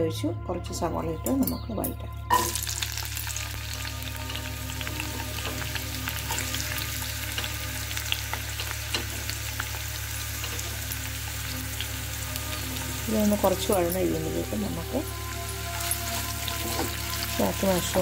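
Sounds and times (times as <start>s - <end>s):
onion sizzling in hot oil: 2.3s - 18.0s.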